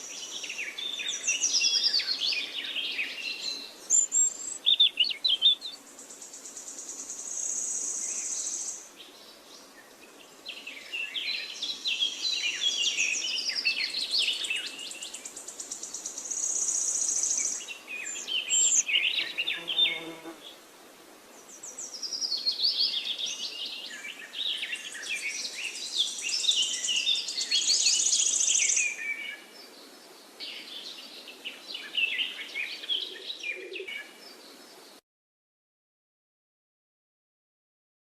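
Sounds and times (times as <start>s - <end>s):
birds singing and chirping: 0.0s - 20.4s, 21.4s - 34.9s
faint outdoor hiss: 0.0s - 35.0s.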